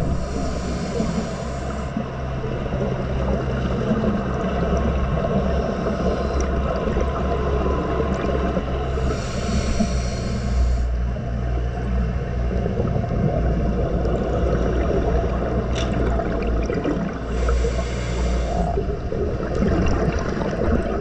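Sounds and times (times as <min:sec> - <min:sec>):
muffled underwater rumble: 0:00.0 - 0:21.0
scuba exhaust bubbles hissing: 0:00.0 - 0:21.0.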